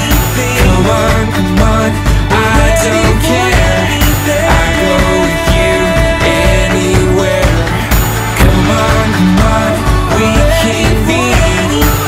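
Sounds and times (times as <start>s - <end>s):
dance music: 0.0s - 12.0s.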